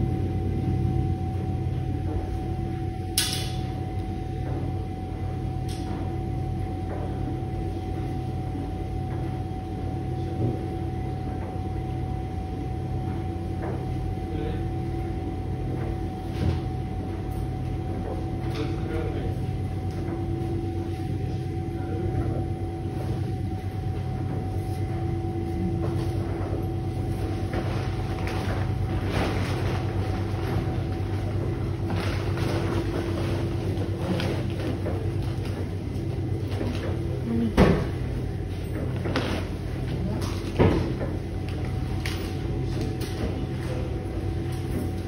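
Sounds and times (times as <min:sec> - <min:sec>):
washing machine running: 0:00.0 - 0:45.0.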